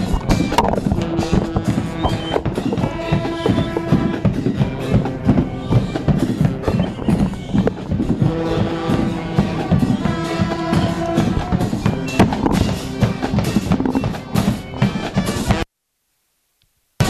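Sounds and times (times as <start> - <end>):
marching band playing: 0.0 - 15.7.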